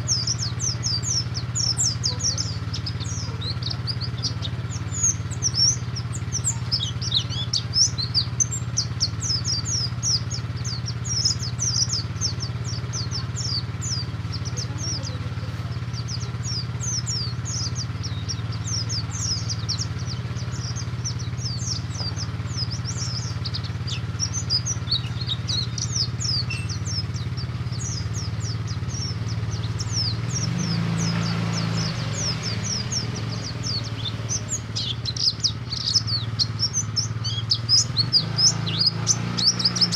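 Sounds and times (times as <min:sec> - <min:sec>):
bird singing rapid chirps: 0:00.0 - 0:39.9
steady low hum: 0:00.0 - 0:39.9.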